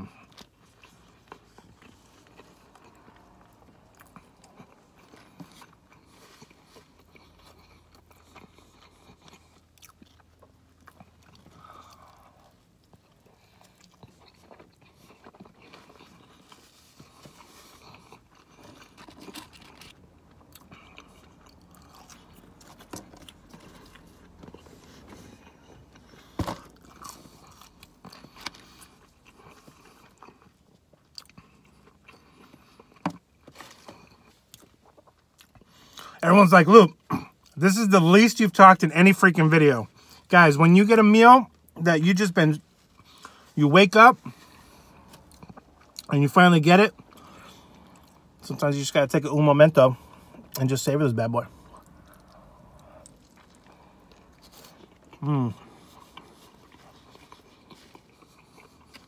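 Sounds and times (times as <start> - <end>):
biting and chewing crunches: 0.0 - 36.2, 41.5 - 48.6, 51.4 - 59.0.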